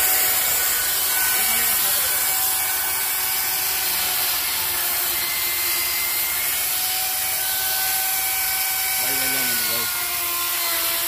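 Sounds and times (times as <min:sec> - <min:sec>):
electric chainsaw cutting wood: 0:00.0 - 0:11.0.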